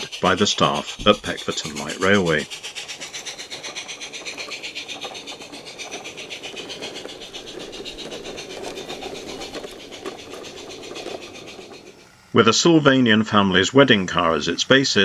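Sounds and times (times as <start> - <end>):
fast even clicking: 0.0 - 15.0
model train wheels rolling: 0.0 - 15.0.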